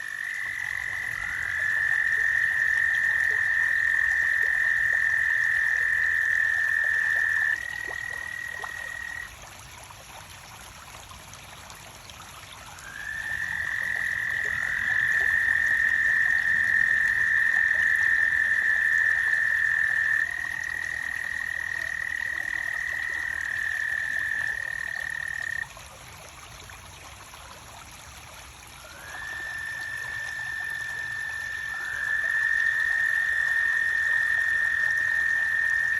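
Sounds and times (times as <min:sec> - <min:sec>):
frogs trilling: 0:00.0 - 0:09.4, 0:12.6 - 0:25.8, 0:28.9 - 0:35.9.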